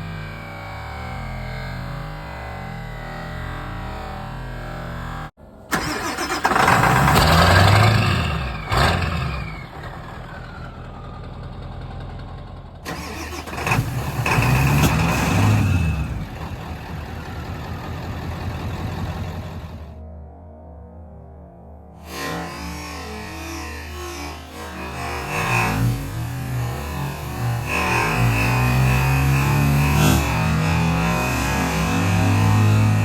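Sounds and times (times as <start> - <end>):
vehicle engine revving: 1.0 - 20.0, 24.6 - 33.0.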